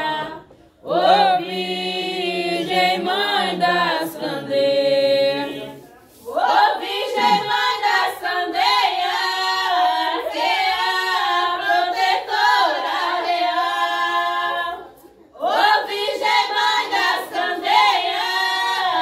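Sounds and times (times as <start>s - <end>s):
women singing unaccompanied: 0.0s - 19.0s.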